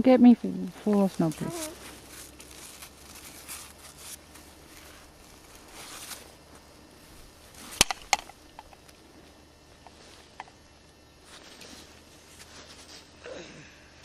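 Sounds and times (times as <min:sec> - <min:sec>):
rustling and crunching: 0:00.6 - 0:13.2.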